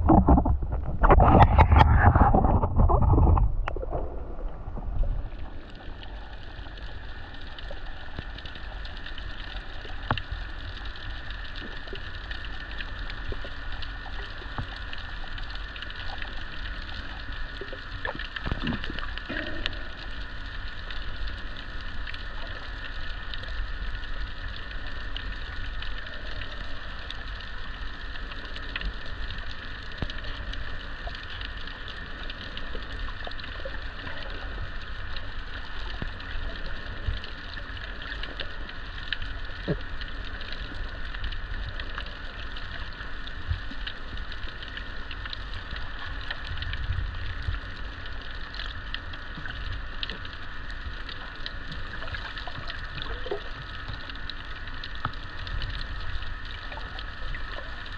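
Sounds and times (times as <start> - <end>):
underwater rumble and hiss: 0.0 - 57.9.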